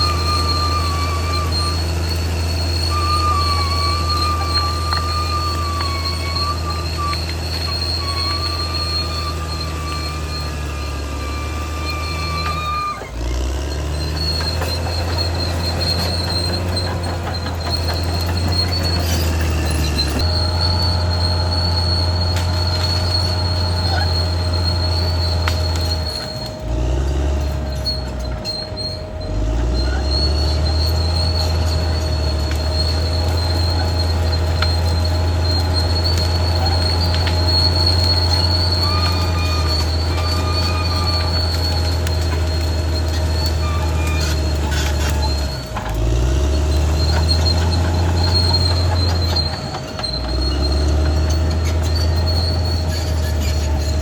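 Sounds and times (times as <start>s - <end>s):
bulldozer diesel engine droning: 0.0s - 54.0s
steel tracks squealing: 0.0s - 54.0s.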